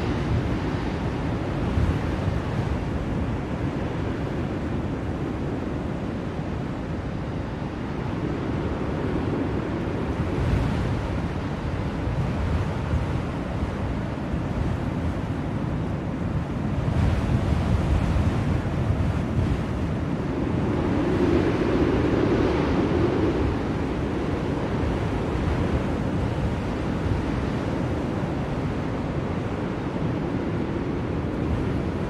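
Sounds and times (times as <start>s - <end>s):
blizzard wind rushing: 0.0s - 32.0s.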